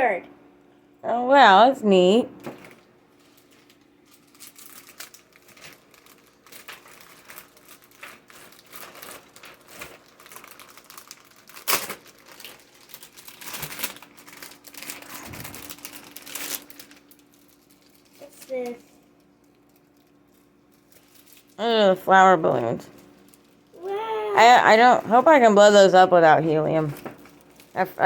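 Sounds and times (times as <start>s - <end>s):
plastic packaging crinkling: 2.5s - 21.6s, 22.8s - 28.0s.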